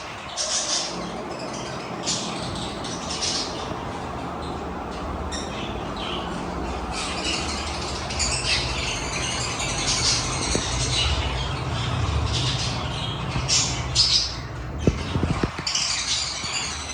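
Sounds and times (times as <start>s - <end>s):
lovebirds chirping and squawking: 0.0s - 16.9s
steady low hum: 0.0s - 16.9s.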